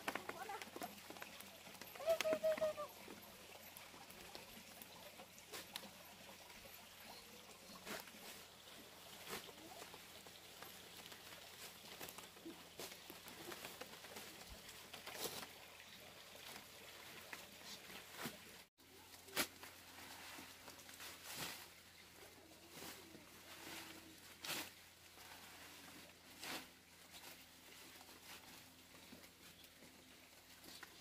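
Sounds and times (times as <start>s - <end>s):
leaves rustling: 0.0s - 31.0s.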